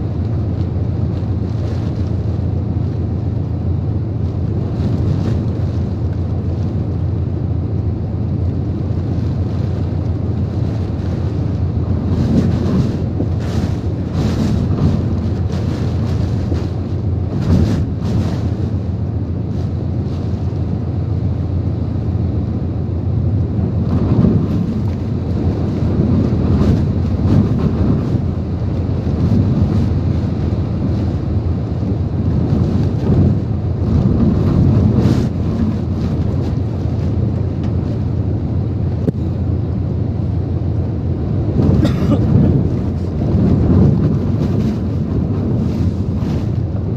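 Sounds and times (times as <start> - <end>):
strong wind gusts buffeting microphone: 0.0 - 46.9.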